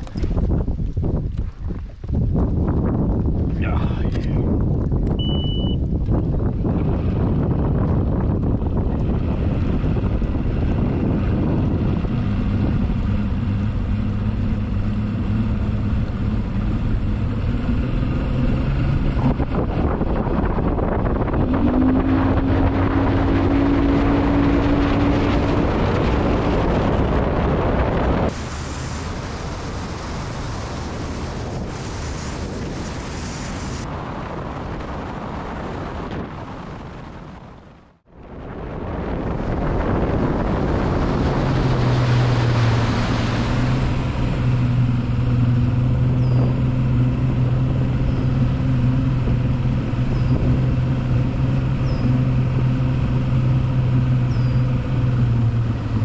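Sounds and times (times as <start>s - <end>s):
outboard motor running: 0.0s - 33.8s, 38.1s - 56.0s
water rushing past hull: 0.0s - 56.0s
wind buffeting microphone: 0.0s - 56.0s.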